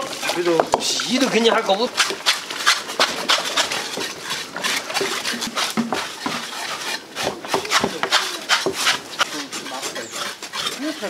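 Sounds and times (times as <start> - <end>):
scraping bristles off pig carcass: 0.0 - 11.0.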